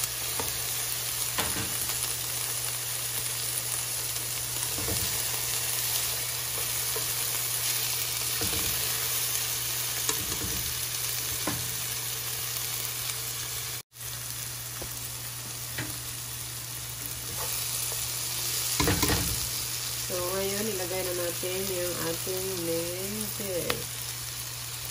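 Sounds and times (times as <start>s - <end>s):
vegetables sizzling in oil: 0.0s - 24.9s.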